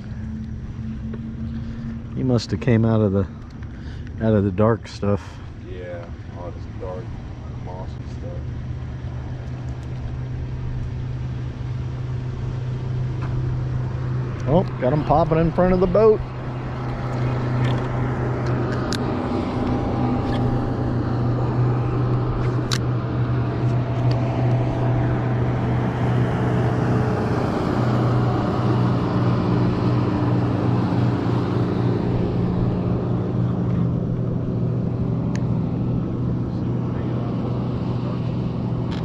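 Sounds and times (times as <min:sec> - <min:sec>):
boat motor hum: 0:00.0 - 0:39.0.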